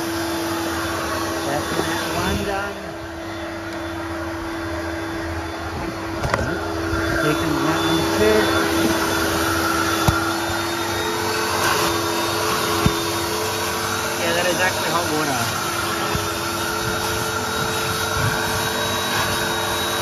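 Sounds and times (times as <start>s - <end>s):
carpet extractor vacuum motor: 0.0s - 20.0s.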